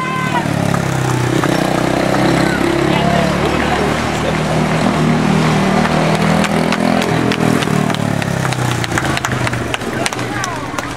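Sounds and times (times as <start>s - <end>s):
race car engine running: 0.4s - 10.9s.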